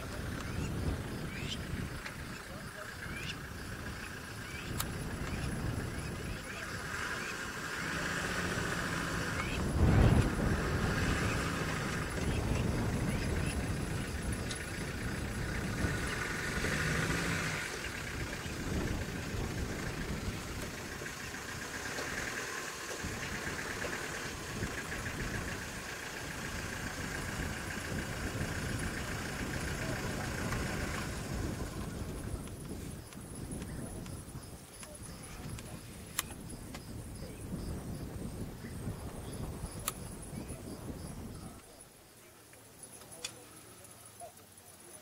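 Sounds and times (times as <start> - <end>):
vehicle engine idling: 0.0 - 45.0.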